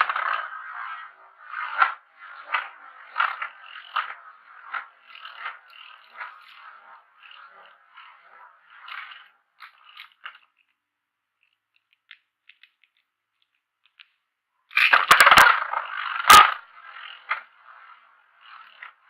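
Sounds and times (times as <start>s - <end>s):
spinning top scraping on plastic: 0.0s - 19.0s.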